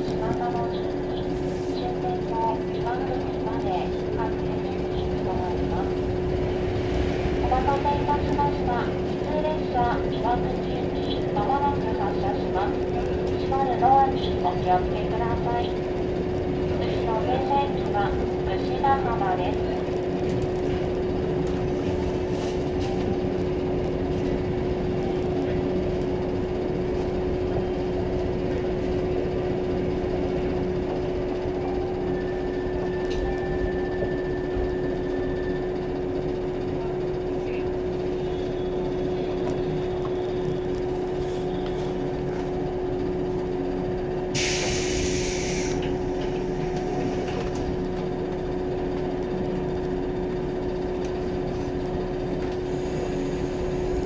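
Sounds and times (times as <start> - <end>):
constant hum: 0.0 - 44.4
train wheels rumbling on rail: 0.0 - 54.0.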